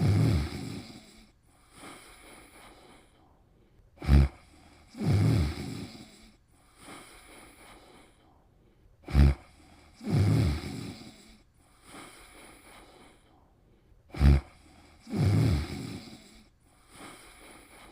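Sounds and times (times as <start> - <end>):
person snoring: 0.0 - 3.2, 4.0 - 8.2, 9.0 - 13.4, 14.1 - 17.9
faint breathing: 0.0 - 17.9.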